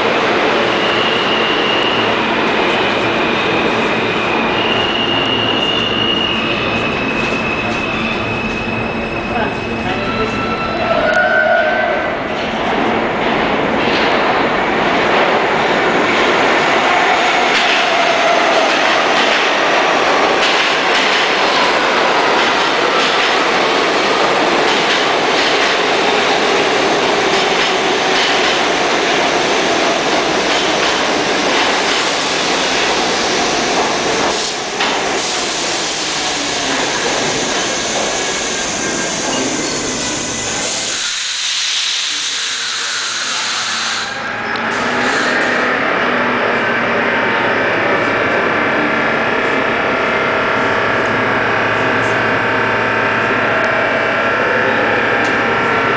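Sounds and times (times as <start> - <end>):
subway train wheels rumbling on rail: 0.0 - 55.9.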